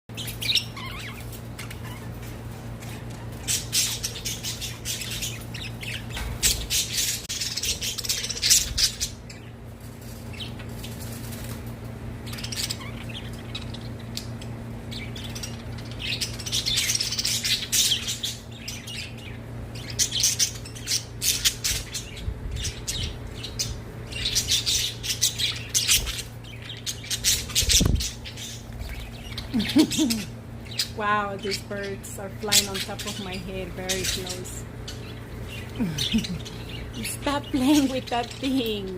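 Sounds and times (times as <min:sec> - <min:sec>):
budgerigars chirping and chattering: 0:00.1 - 0:11.6, 0:12.2 - 0:38.9
steady low hum: 0:00.1 - 0:38.9.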